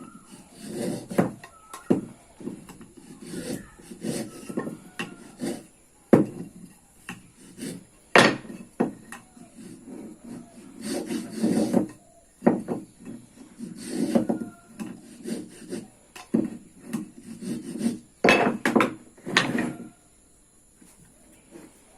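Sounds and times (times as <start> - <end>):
wood scraping by hand: 0.0 - 20.0.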